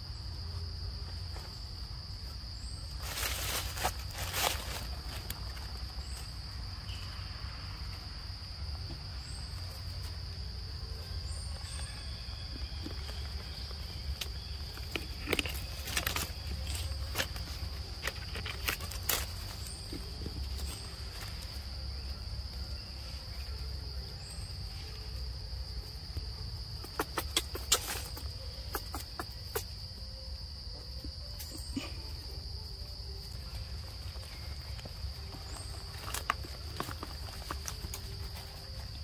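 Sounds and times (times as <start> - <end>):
dry leaves and twigs crackling: 0.1 - 39.0.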